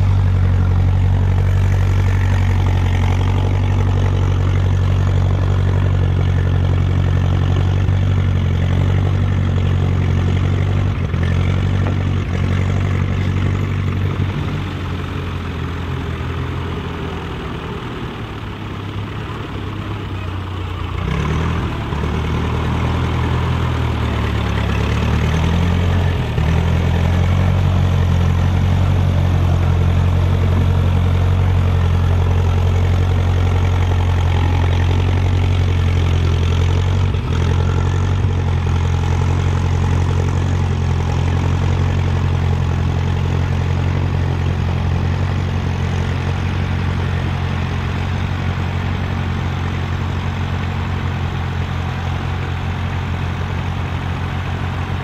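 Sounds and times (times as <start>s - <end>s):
tractor engine drone: 0.0s - 55.0s.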